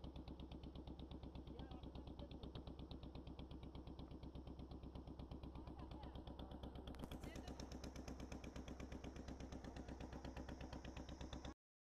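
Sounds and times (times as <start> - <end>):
small boat engine running: 0.0 - 11.6.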